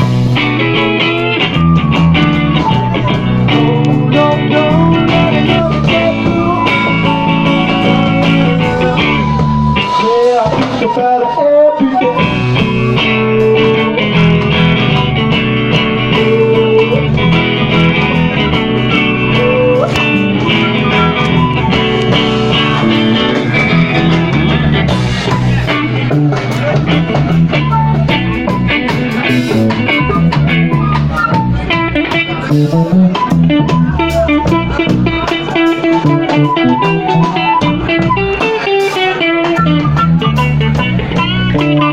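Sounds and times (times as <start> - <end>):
bass line: 0.0 - 41.9
electric guitar notes: 0.0 - 41.9.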